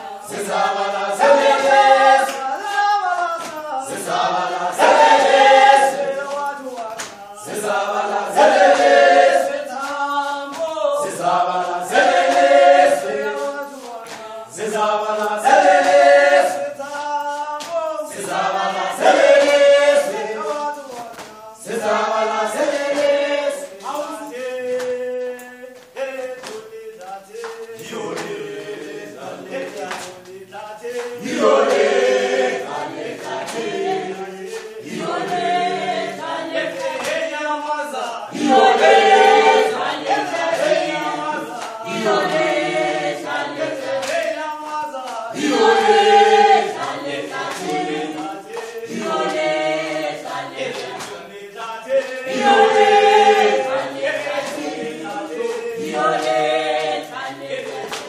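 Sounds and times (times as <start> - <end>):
group singing unaccompanied: 0.0 - 58.0.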